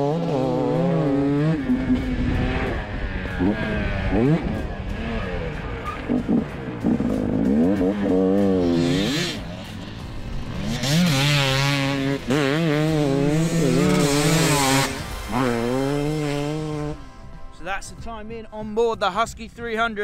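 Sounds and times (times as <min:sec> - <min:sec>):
motorbike engine revving: 0:00.0 - 0:17.4.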